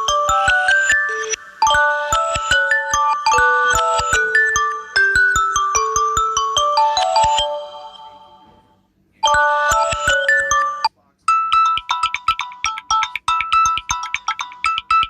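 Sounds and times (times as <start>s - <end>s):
rapid high-note ringtone: 0.0s - 8.6s, 9.2s - 15.0s
bell-like ringtone melody: 0.0s - 15.0s
ringtone tune: 0.0s - 15.0s.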